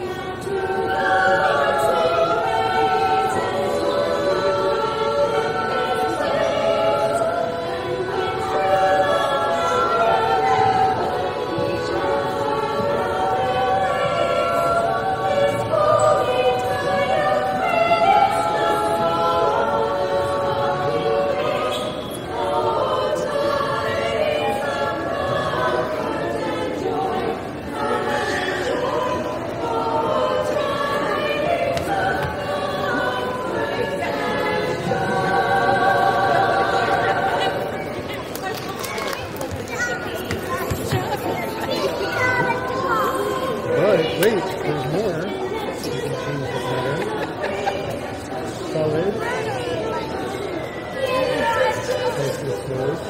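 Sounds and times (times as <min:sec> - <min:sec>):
vocal group singing in harmony: 0:00.0 - 0:53.0.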